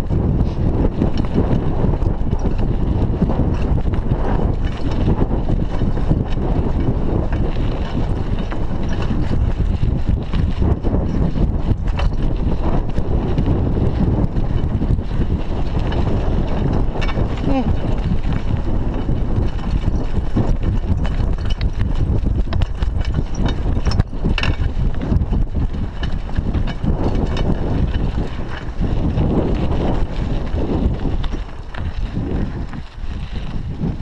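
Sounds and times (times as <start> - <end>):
bike clicks and rattles: 0.0 - 34.0
tyre rumble on dirt road: 0.0 - 34.0
wind buffeting microphone: 0.0 - 34.0.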